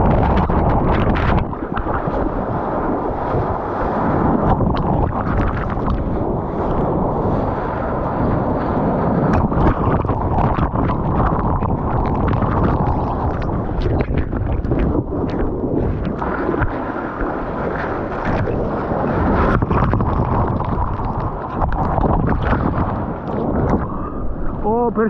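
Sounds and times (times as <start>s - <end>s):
water splashes: 0.0s - 25.0s
waves breaking: 0.0s - 25.0s
wind buffeting microphone: 0.0s - 25.0s.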